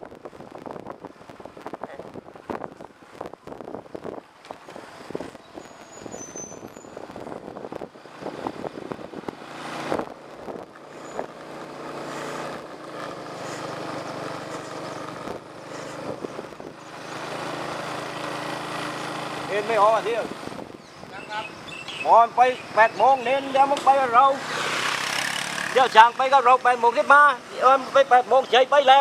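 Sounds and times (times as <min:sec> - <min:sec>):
small motorbike engine hum: 0:02.1 - 0:27.5.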